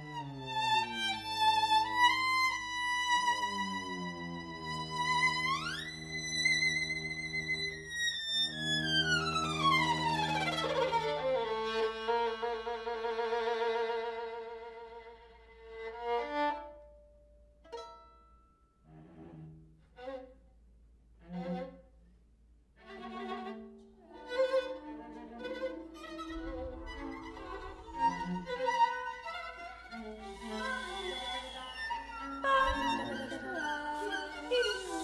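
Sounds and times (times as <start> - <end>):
violin and cello bowed notes: 0.0 - 17.0, 22.8 - 35.0.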